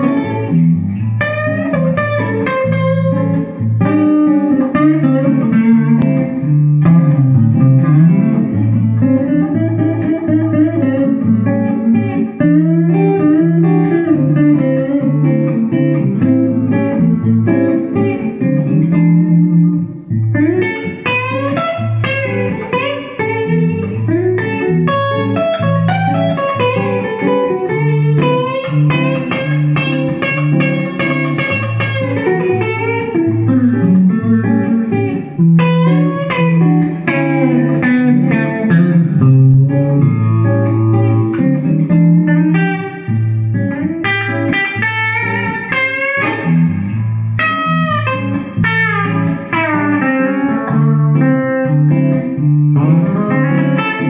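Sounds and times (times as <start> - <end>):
electric guitar through amplifier: 0.0 - 54.0.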